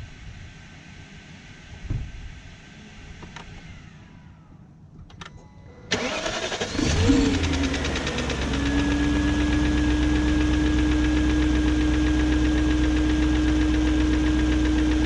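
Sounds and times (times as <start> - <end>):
car engine starting and idling: 2.4 - 15.0.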